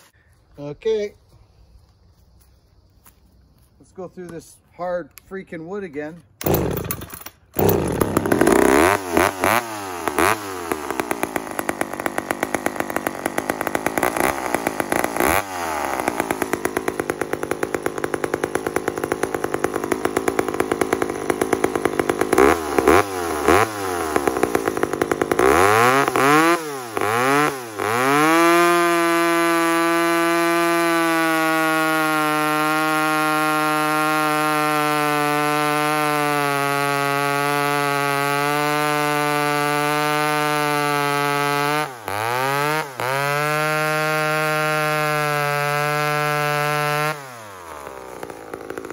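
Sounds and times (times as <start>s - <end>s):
chainsaw revving and cutting log: 6.4s - 48.9s.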